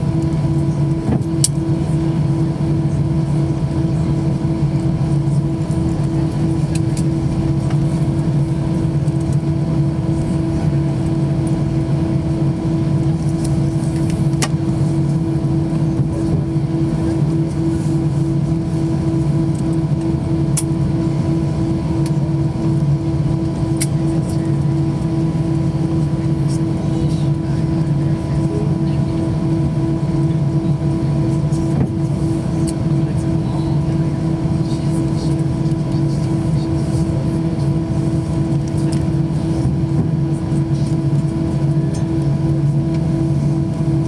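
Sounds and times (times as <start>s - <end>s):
aircraft engine drone: 0.0s - 44.0s.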